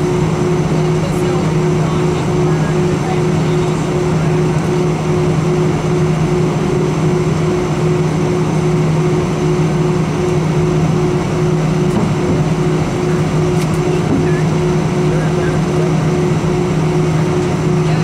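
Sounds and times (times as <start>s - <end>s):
airliner cabin noise: 0.0s - 18.0s.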